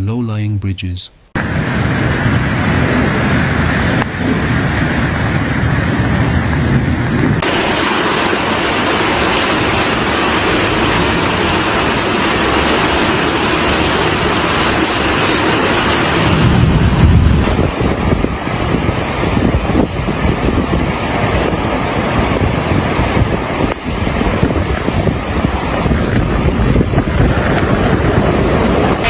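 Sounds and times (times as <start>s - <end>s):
floodwater rushing: 1.4s - 29.0s.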